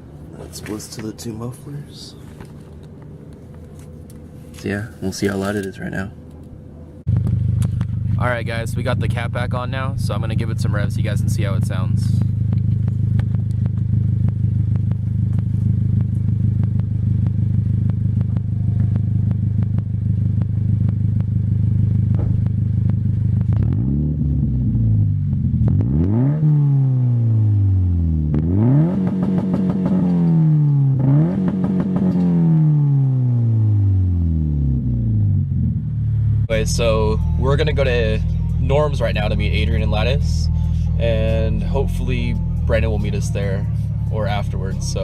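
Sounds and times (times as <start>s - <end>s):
car engine idling and revving: 0.0s - 45.0s.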